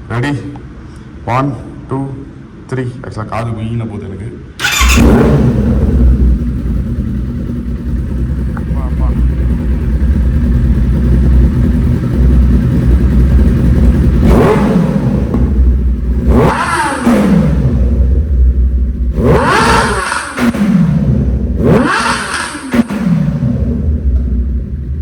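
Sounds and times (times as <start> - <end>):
motorcycle engine idling and revving: 4.6 - 25.0.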